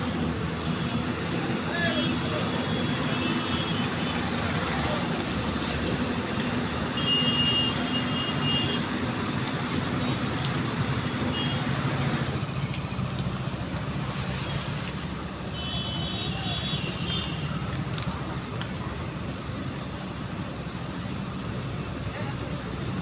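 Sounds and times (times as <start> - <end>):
heavy diesel excavator engine: 0.0 - 23.0.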